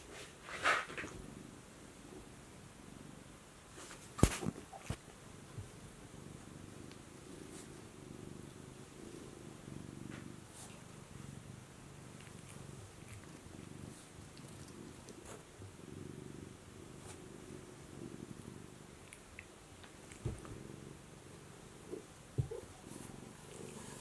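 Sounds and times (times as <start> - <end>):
cat purring: 0.2 - 3.4, 4.3 - 24.0.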